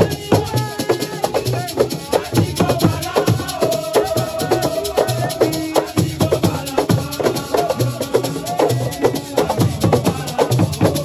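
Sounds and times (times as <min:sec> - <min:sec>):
fast drumming: 0:00.0 - 0:11.0
shaker rattles: 0:00.0 - 0:11.0
voices singing: 0:00.0 - 0:11.0.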